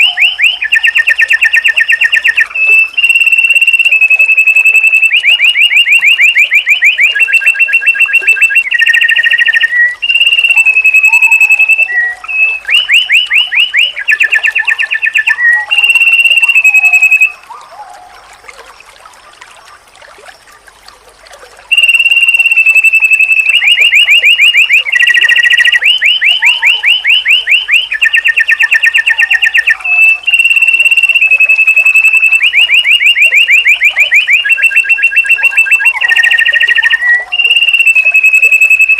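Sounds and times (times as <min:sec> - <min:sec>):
bird song trills and whistles: 0:00.0 - 0:19.2, 0:21.7 - 0:38.9.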